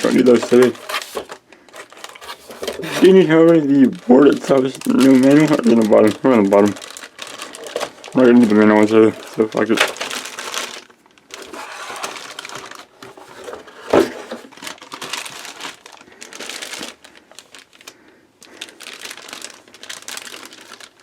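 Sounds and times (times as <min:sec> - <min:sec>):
packaging rustling and crinkling: 0:00.0 - 0:21.0.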